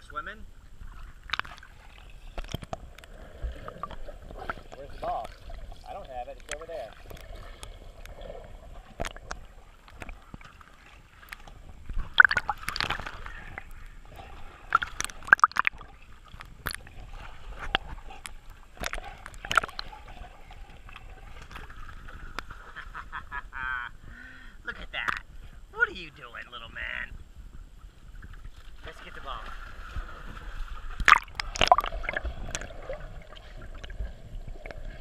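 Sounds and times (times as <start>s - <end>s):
water sloshing and splashing: 0.7s - 23.0s, 27.8s - 35.0s.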